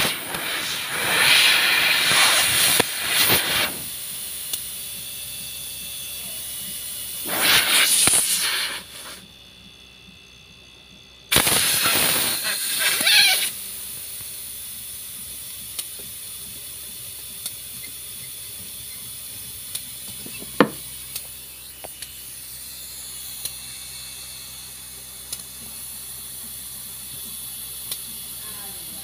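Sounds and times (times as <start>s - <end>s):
steady high hiss: 0.0s - 9.3s, 11.3s - 29.0s.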